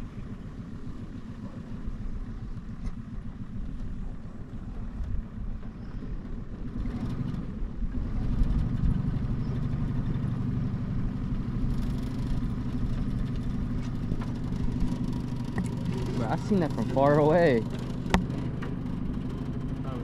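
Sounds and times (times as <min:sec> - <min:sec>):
outboard boat motor humming: 0:00.0 - 0:20.0.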